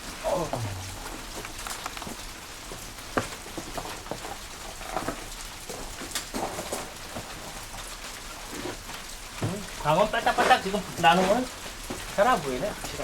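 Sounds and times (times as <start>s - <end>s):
wood fire rushing and crackling: 0.0s - 13.0s.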